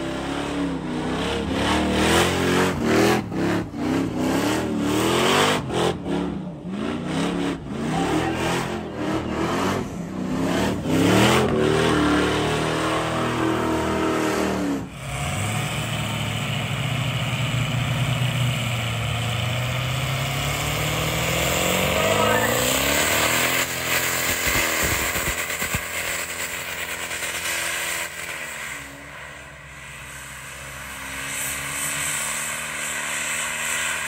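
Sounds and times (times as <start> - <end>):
diesel pickup at high rev: 0.0 - 34.0
truck engine revving: 0.0 - 34.0.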